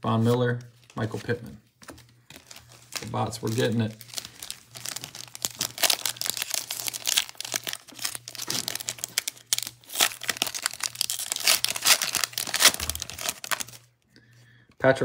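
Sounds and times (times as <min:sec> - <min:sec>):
foil wrapper tearing and crinkling: 0:00.8 - 0:13.9.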